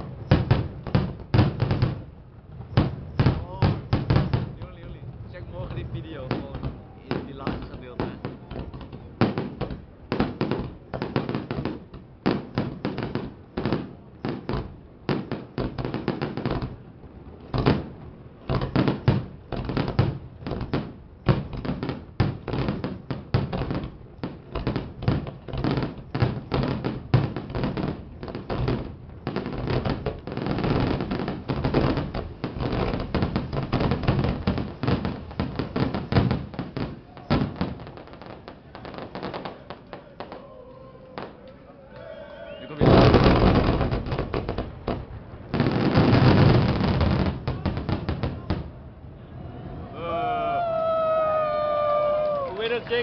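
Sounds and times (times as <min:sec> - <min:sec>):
fireworks bursting: 0:00.0 - 0:48.9, 0:50.2 - 0:53.0.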